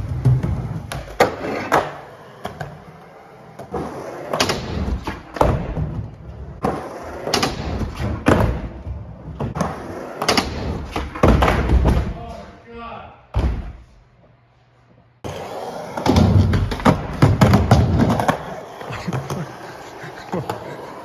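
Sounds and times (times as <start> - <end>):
skateboard rolling on plywood: 0.0 - 11.5, 15.2 - 21.0.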